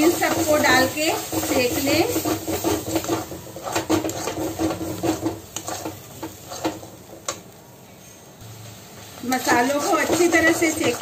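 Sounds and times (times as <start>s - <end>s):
metal spatula scraping pan: 0.0s - 7.2s, 9.2s - 11.0s.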